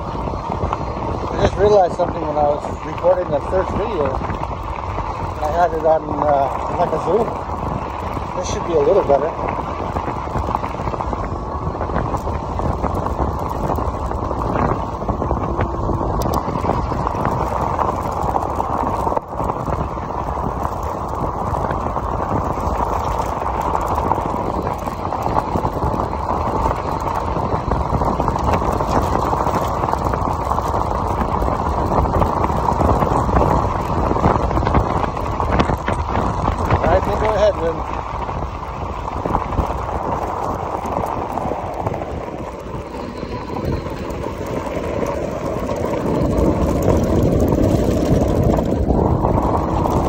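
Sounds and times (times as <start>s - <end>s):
tyres on loose gravel: 0.0s - 50.0s
wind on microphone: 0.0s - 50.0s.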